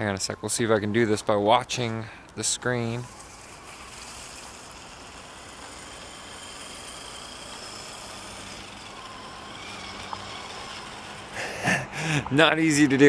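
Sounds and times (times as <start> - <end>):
faint high whining tones: 0.0 - 13.0.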